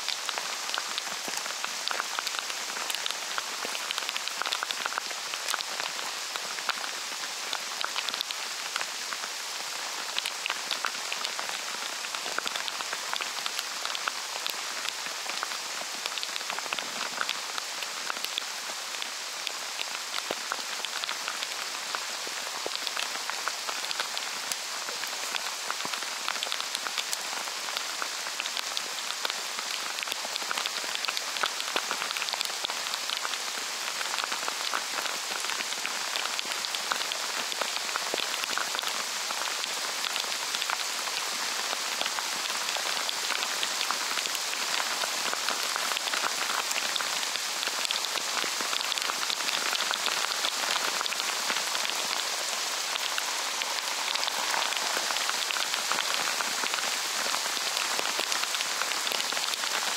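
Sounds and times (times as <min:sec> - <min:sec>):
heavy rain on water: 0:00.0 - 0:59.9.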